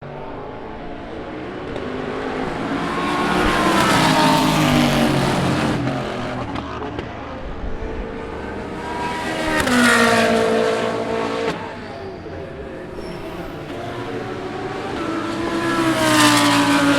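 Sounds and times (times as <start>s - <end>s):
race car engines passing: 0.0s - 16.9s.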